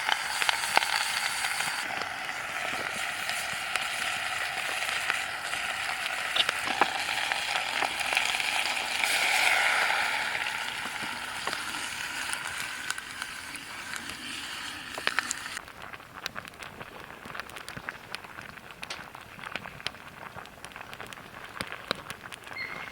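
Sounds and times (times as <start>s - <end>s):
food sizzling in a pan: 0.0s - 18.4s
pops and crackles: 0.0s - 22.9s.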